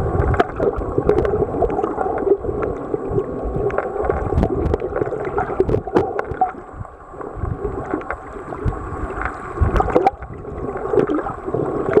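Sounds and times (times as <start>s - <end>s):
muffled underwater sloshing: 0.0s - 12.0s.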